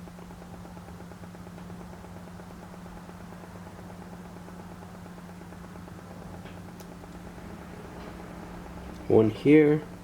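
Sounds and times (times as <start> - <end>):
electrical hum with hiss: 0.0 - 10.0.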